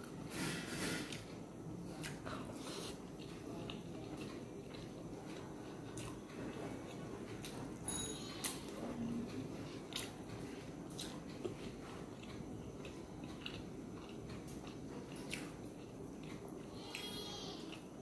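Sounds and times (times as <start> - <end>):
low background noise: 0.0 - 18.0
person chewing with wet smacks: 1.1 - 7.7, 8.4 - 17.9.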